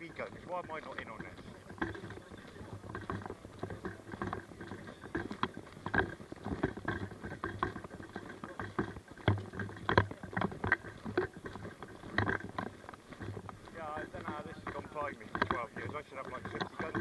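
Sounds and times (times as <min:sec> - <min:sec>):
clothing and gear rustling: 0:00.0 - 0:17.0
footsteps crunching on rough ground: 0:00.0 - 0:17.0.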